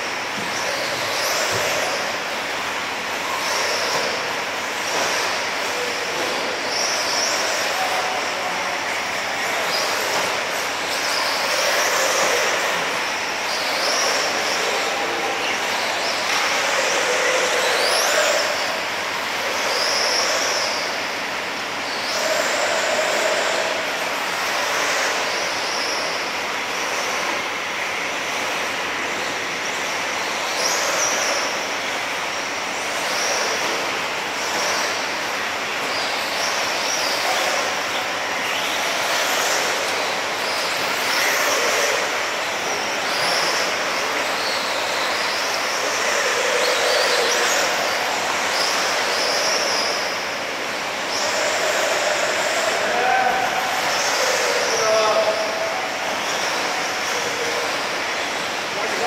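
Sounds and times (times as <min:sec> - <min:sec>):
steady noisy wash: 0:00.0 - 0:59.0.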